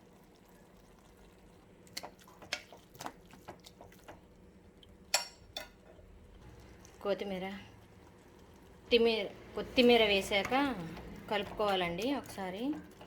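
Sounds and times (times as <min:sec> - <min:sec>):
curry simmering with soft pops: 0:00.0 - 0:13.0.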